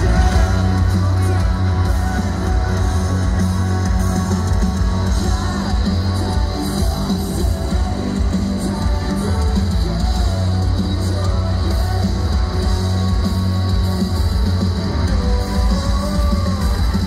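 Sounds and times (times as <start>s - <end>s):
person singing: 0.0s - 17.0s
rock music with heavy bass: 0.0s - 17.0s.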